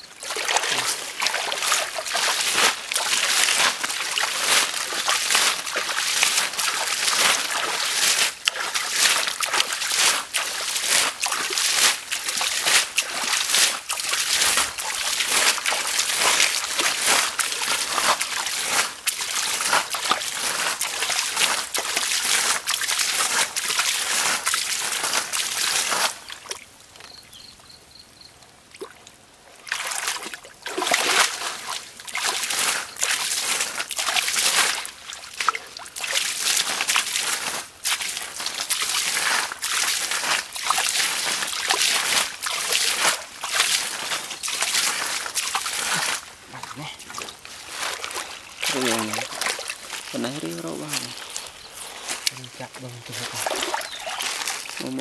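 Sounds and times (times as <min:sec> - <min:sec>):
muddy water splashing: 0:00.0 - 0:27.1, 0:28.7 - 0:55.0.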